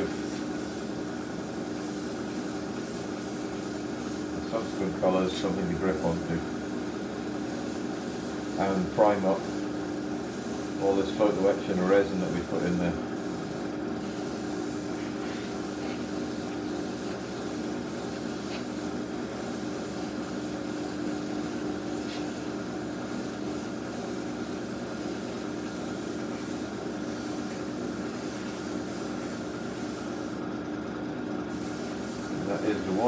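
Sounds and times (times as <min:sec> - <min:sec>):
airbrush spraying hiss: 0:00.0 - 0:30.4, 0:31.5 - 0:33.0.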